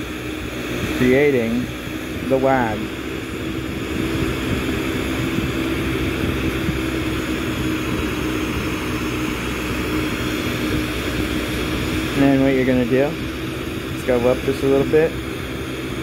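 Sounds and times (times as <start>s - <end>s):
steady low hum: 0.0s - 16.0s
torch flame hissing: 0.0s - 16.0s.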